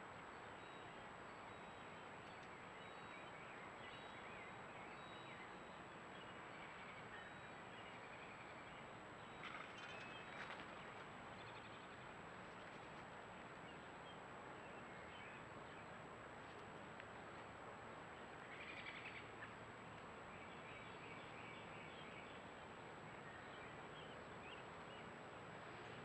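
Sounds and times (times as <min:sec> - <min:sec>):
outdoor ambience: 0:00.0 - 0:26.0.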